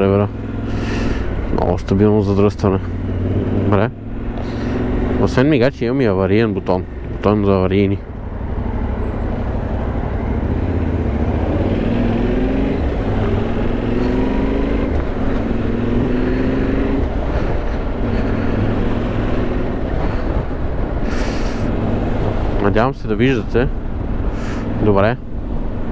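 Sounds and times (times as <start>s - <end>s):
motorcycle engine accelerating: 0.0s - 5.6s, 6.4s - 22.6s
road noise: 0.0s - 25.9s.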